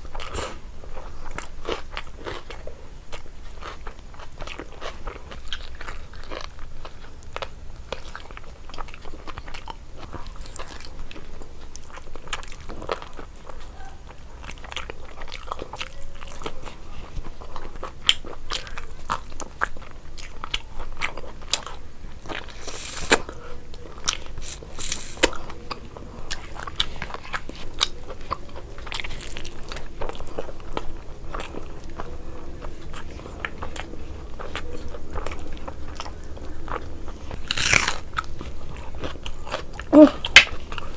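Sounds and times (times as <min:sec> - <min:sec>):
chewing with wet mouth clicks: 0:00.0 - 0:40.9
food crunching: 0:00.0 - 0:40.9.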